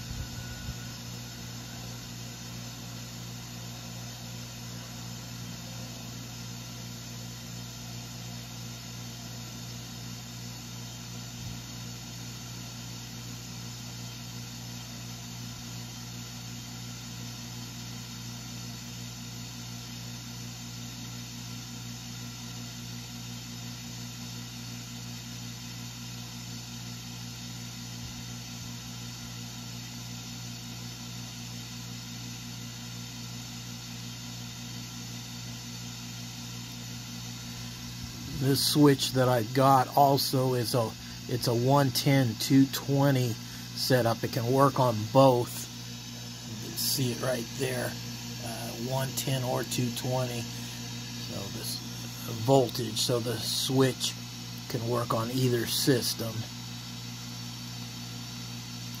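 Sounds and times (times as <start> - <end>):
water pump humming: 0.0 - 59.0.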